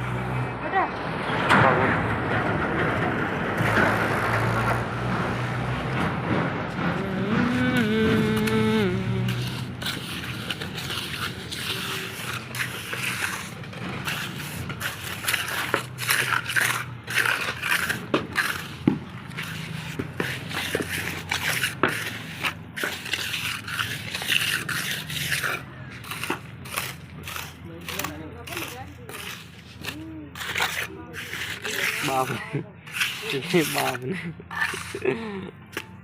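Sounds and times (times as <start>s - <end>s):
scraping and crunching building material: 1.2s - 36.0s.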